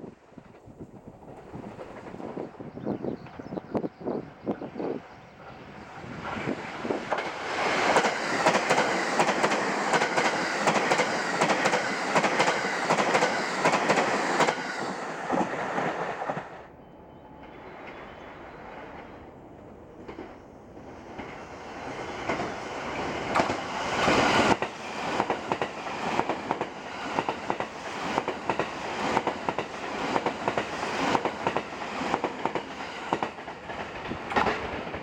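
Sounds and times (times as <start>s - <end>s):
electric train passing at speed: 0.0s - 35.0s.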